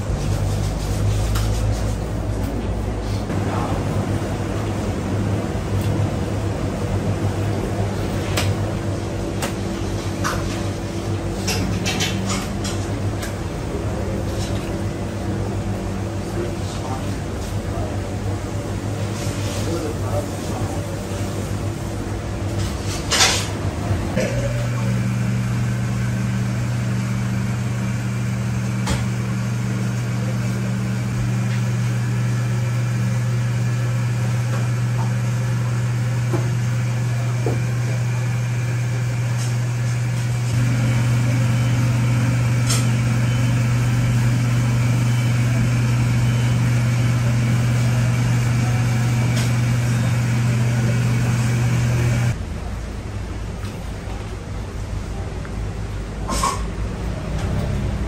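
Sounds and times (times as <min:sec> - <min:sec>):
low machine hum: 0:00.0 - 0:56.2.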